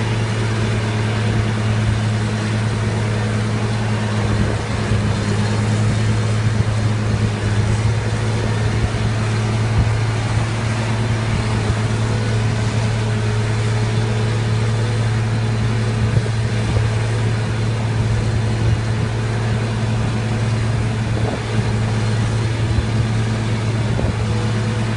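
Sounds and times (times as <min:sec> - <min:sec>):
tractor diesel engine humming: 0:00.0 - 0:24.9.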